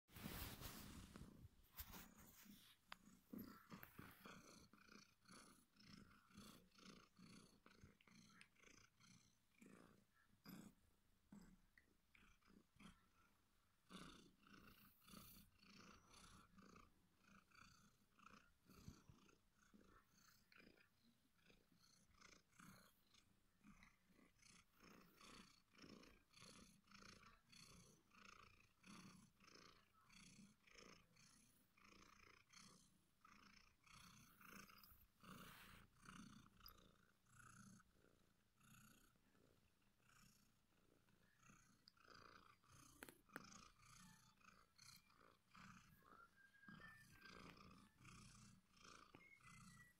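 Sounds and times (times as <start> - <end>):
cat purring: 0.1 - 49.9.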